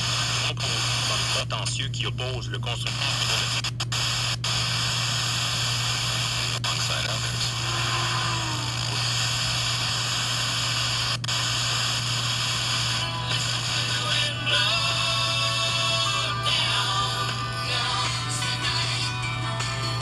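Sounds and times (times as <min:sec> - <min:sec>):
radio hiss: 0:00.0 - 0:18.9
faint radio station: 0:00.0 - 0:20.0.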